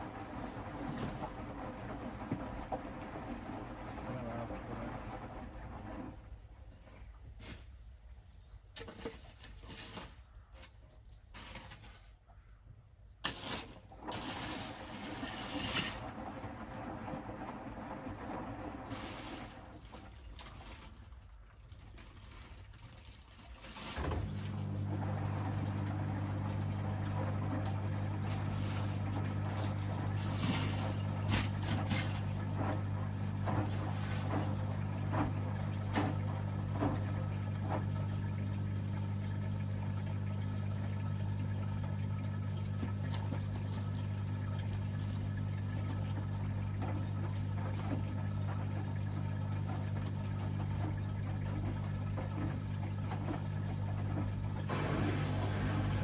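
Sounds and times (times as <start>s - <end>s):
drain pump running: 0.0s - 6.5s, 13.4s - 20.8s, 23.8s - 56.0s.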